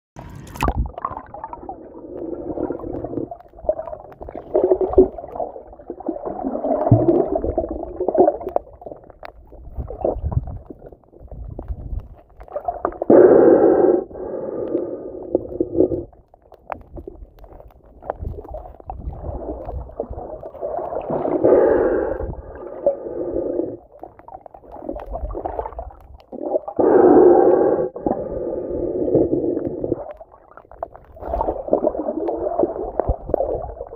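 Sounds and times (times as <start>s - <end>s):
underwater sloshing and gurgling: 0.2s - 33.9s.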